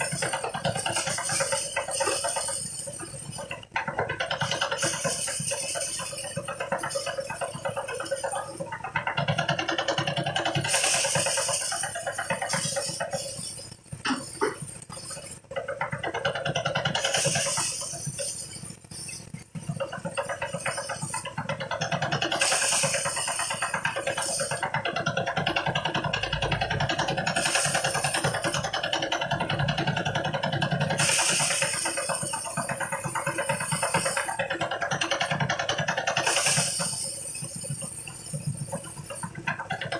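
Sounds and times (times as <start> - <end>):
threshing machine engine running: 0.0 - 39.9.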